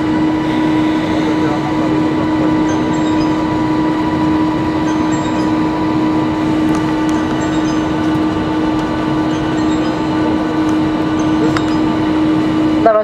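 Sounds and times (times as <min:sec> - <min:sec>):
cabin air conditioning: 0:00.0 - 0:13.0
faint higher tones: 0:00.0 - 0:13.0
jet engines rushing: 0:00.0 - 0:13.0
strong steady hum: 0:00.0 - 0:13.0.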